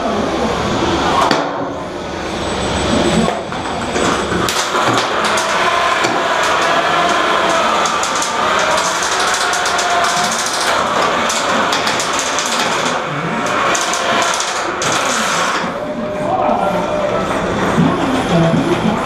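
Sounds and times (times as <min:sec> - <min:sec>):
steady noisy din: 0:00.0 - 0:19.0
robot spinning weapon whining: 0:02.3 - 0:19.0.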